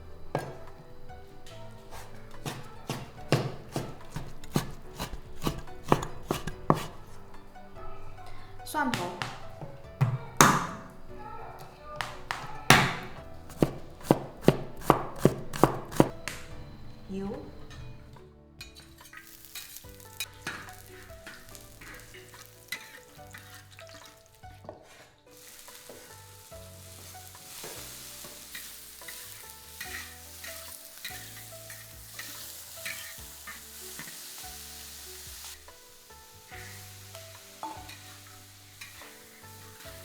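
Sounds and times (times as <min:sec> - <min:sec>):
food sizzling in hot oil: 0:00.0 - 0:16.3, 0:18.8 - 0:40.0
spatula scraping a wok: 0:00.0 - 0:18.0, 0:18.6 - 0:40.0.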